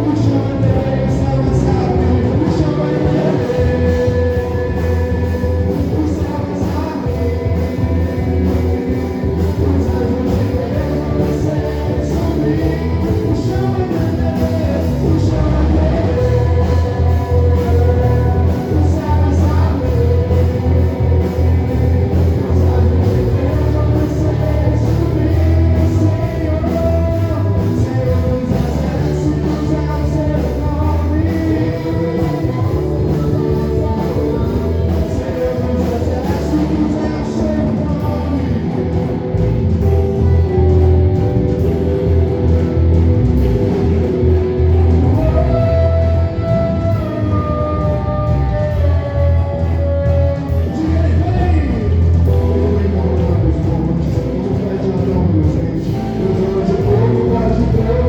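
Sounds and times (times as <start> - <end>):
live band playing loud music: 0.0 - 58.0
person singing: 0.0 - 58.0.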